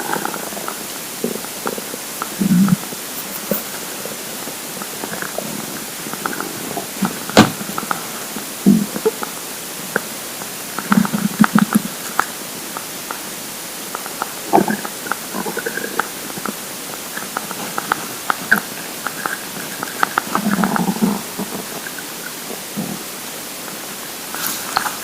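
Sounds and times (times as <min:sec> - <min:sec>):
steady hiss: 0:00.0 - 0:25.0
stomach gurgling: 0:00.0 - 0:25.0.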